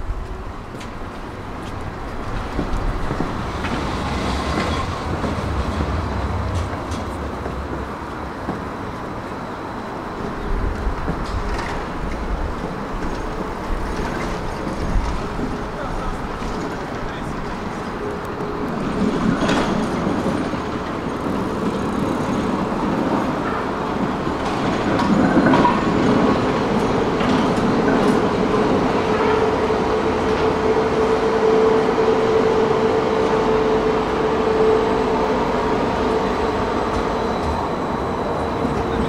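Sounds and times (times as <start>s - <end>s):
tram hum: 0.0s - 39.0s
tram wheels rumbling on rails: 0.0s - 39.0s.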